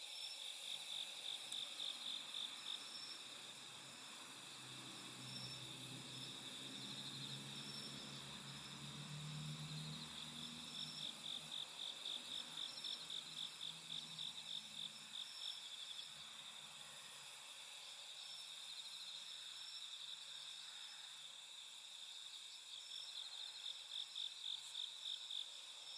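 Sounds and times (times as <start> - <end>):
high insect trill: 0.1 - 25.9
night insects chirping in pulses: 0.1 - 25.9.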